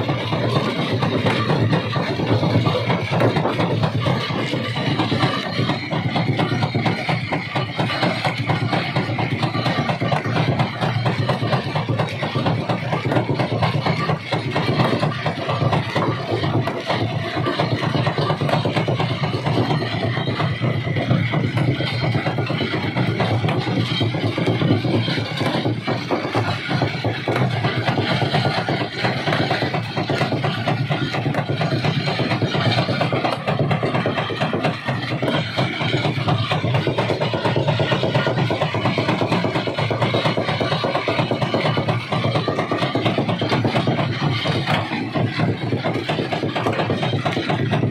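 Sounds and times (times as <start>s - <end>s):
engine drone: 0.0s - 47.9s
stone rattling and knocking: 0.0s - 47.9s.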